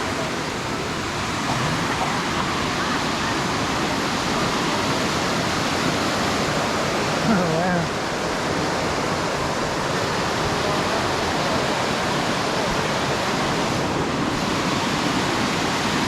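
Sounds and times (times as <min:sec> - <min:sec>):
flowing creek water: 0:00.0 - 0:16.0.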